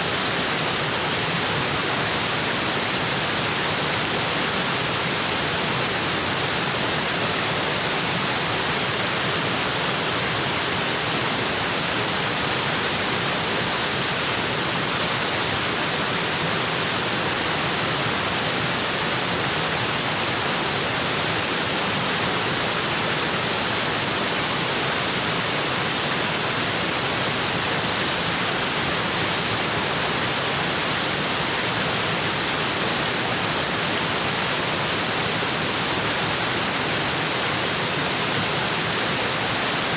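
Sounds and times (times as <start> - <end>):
waterfall onto rocks: 0.0 - 39.9.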